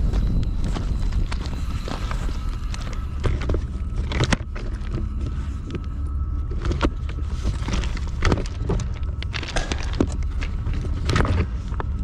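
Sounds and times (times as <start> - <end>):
clicks and knocks of stones: 0.0 - 12.0
steady low rumble: 0.0 - 12.0.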